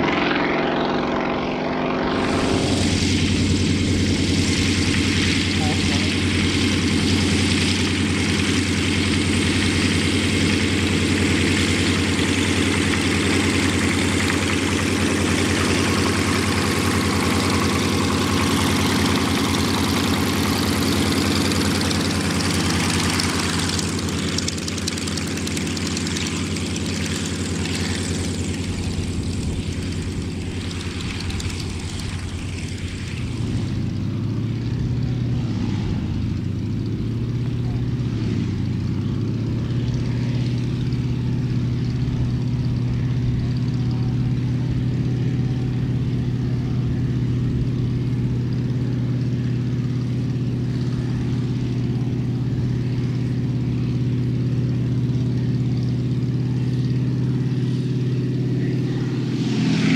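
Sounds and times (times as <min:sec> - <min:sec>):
plane engine at high power: 0:00.0 - 0:59.9
propeller hiss: 0:00.0 - 0:59.9.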